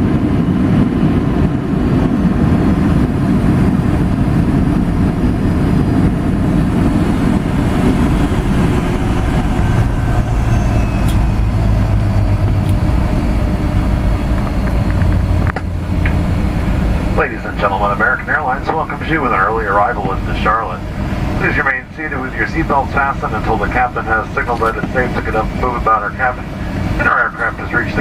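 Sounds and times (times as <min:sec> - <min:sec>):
airplane engine and wheel rumble: 0:00.0 - 0:28.0
low drone: 0:00.0 - 0:28.0.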